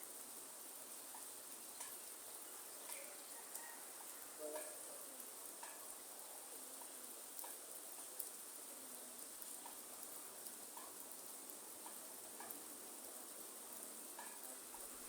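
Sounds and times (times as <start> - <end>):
light rain hissing in a forest: 0.0 - 15.0
raindrops ticking close by: 0.0 - 15.0.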